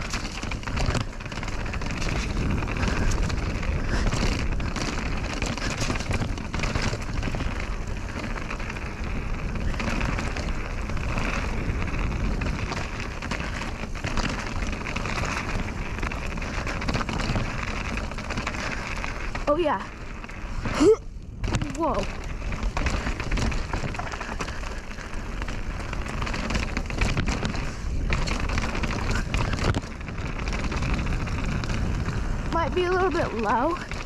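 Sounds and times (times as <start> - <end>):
bike rattling over bumps: 0.0 - 34.0
tyre and wind rush: 0.0 - 34.0.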